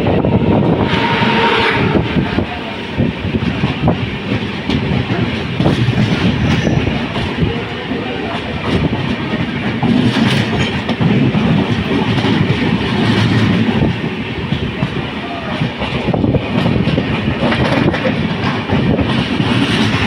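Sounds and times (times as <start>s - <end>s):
passing train rumble: 0.0s - 20.0s
train wheels clattering over rail joints: 3.1s - 20.0s.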